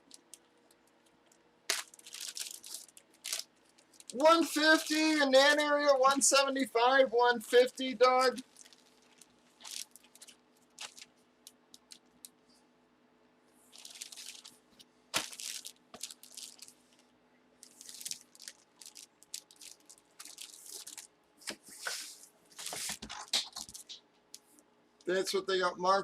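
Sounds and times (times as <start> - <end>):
plastic packaging crinkling: 0.0 - 6.2, 7.4 - 12.4, 13.7 - 24.0.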